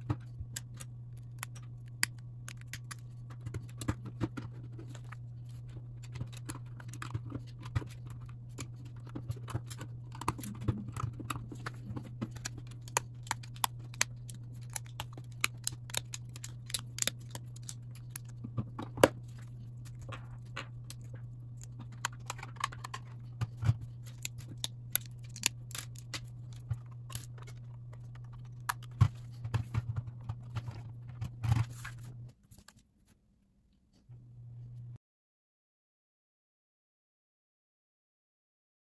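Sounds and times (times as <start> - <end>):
steady low hum: 0.0 - 32.4.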